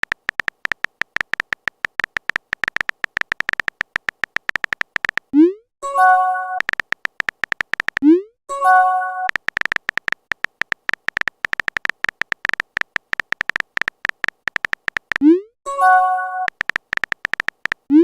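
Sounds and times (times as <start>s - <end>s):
phone keyboard typing ticks: 0.0s - 18.0s.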